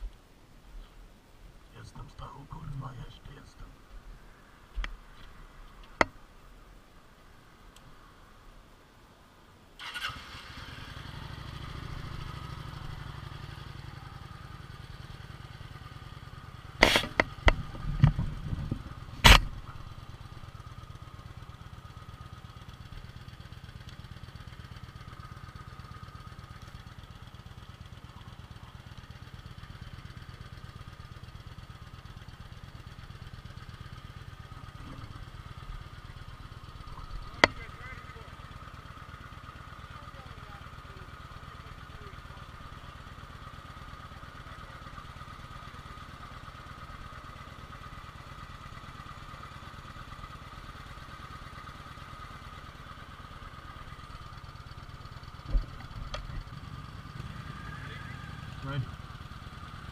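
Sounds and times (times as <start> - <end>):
motorcycle engine starting and idling: 9.8 - 59.9.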